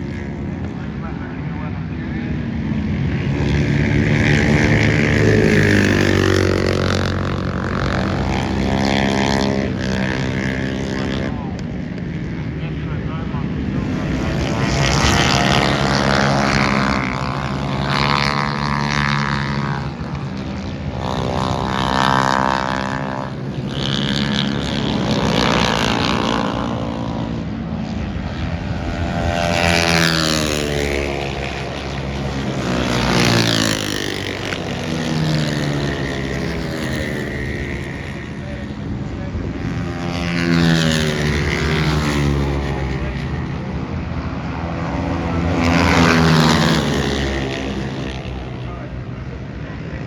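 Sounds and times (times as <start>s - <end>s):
high-revving engines passing by: 0.0s - 50.0s.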